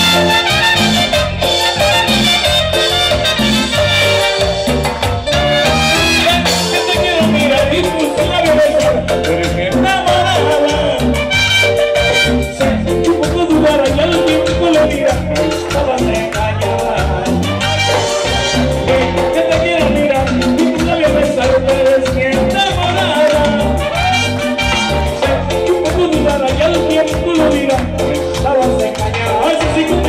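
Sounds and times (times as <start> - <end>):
salsa dance music: 0.0 - 30.0.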